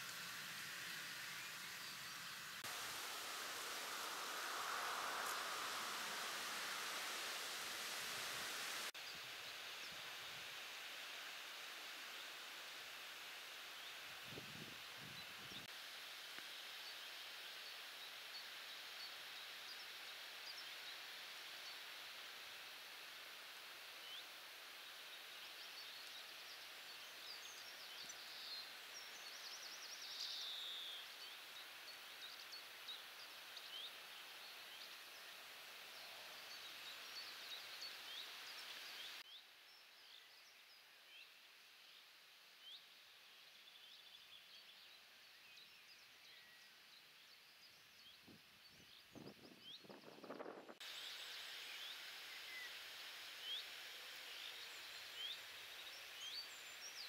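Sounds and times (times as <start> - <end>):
background hiss: 0.0 - 57.0
rustle: 0.0 - 57.0.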